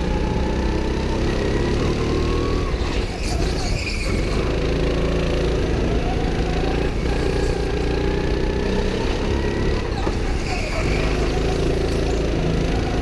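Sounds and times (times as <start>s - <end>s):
go-kart engine running: 0.0s - 13.0s
rumble of kart and tyres: 0.0s - 13.0s.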